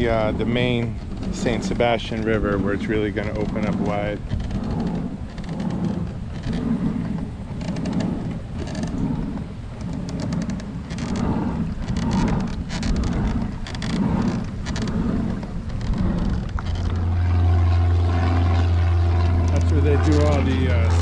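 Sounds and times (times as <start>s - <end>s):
low engine drone: 0.0s - 21.0s
paddle splashing through water: 0.0s - 21.0s
wind rumbling on microphone: 0.0s - 21.0s.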